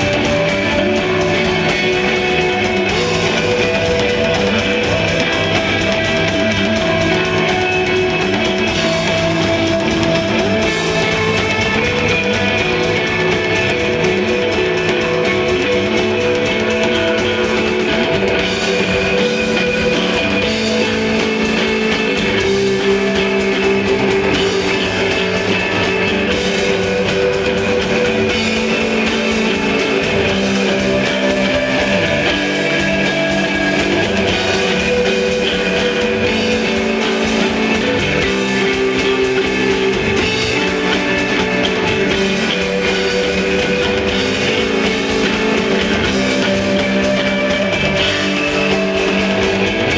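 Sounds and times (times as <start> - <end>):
bass guitar: 0.0 - 49.9
drum kit: 0.0 - 49.9
electric guitar ringing notes: 0.0 - 49.9.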